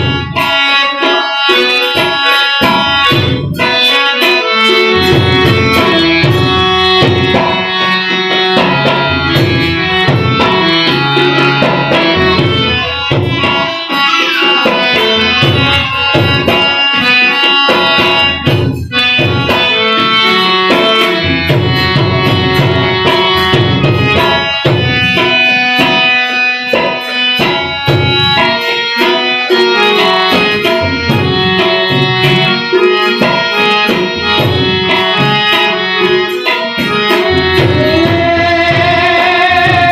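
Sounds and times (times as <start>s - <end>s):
harmonium melody: 0.0s - 39.9s
tabla rhythm: 0.0s - 39.9s.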